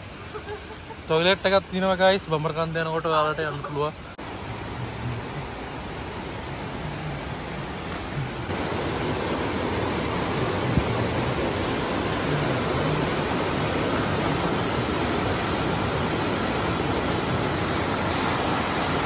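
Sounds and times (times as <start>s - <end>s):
flowing water: 0.0s - 19.0s.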